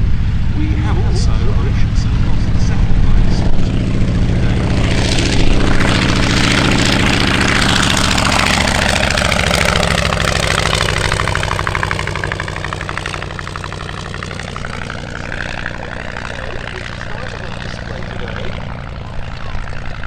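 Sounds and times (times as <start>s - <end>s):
propeller aircraft flying past: 0.0s - 20.0s.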